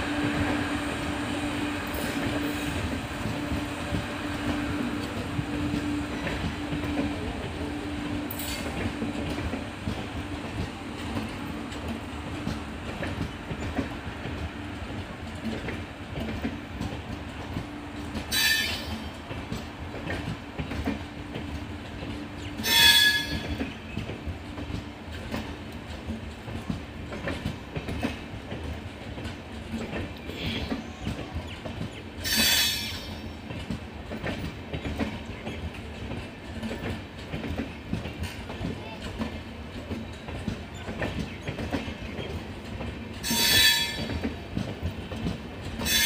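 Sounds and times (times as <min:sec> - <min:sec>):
train wheels clattering on rails: 0:00.0 - 0:46.0.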